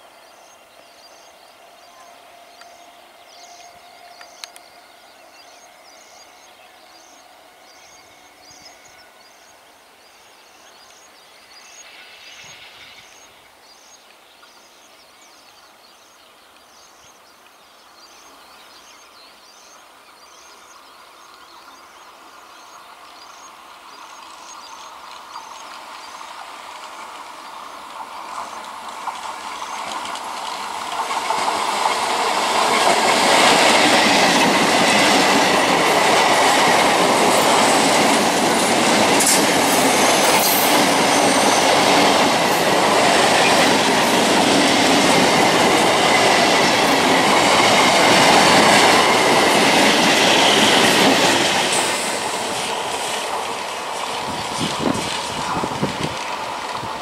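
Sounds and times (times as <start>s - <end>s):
electric train passing: 0.0s - 14.5s, 19.7s - 57.0s.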